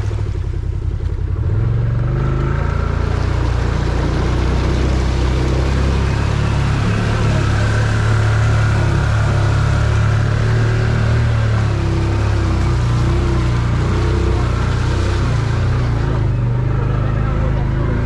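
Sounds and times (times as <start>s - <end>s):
vehicle engine under load: 0.0s - 18.0s.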